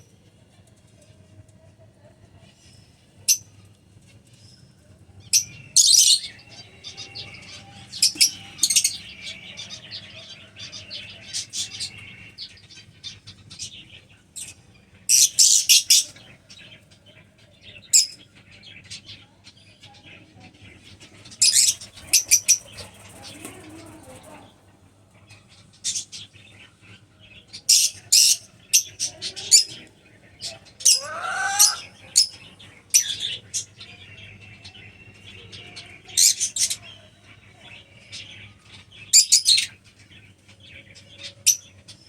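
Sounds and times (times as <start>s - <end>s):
lovebirds chirping: 2.4s - 42.0s.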